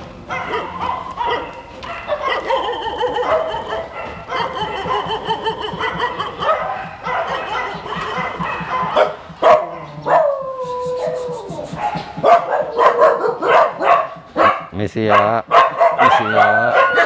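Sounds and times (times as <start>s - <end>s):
dogs barking and yipping: 0.0s - 17.0s.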